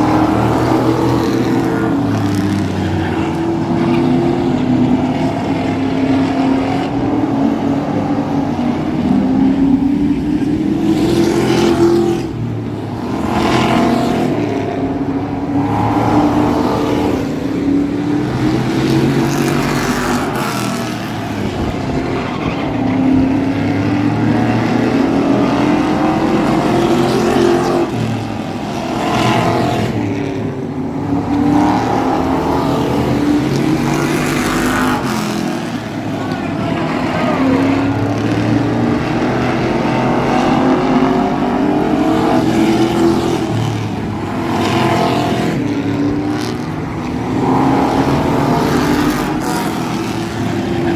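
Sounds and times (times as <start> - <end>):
race truck engine revving: 0.0 - 50.9.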